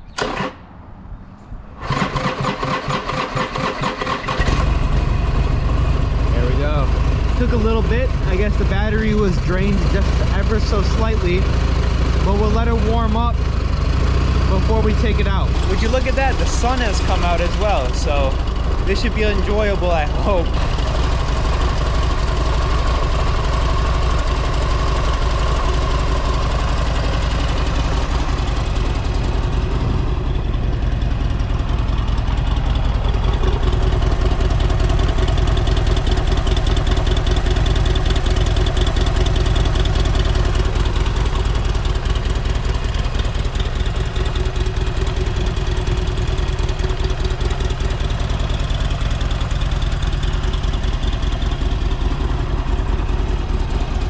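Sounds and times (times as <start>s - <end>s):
motorcycle engine idling: 3.7s - 54.0s.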